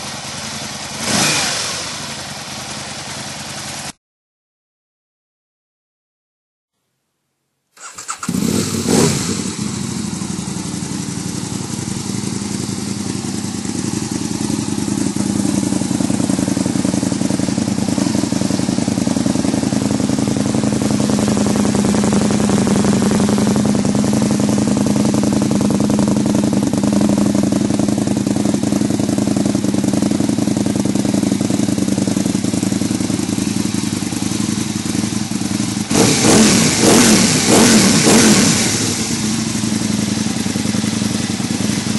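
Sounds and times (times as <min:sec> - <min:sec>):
motorcycle engine idling and revving: 0:00.0 - 0:04.0, 0:07.8 - 0:41.9.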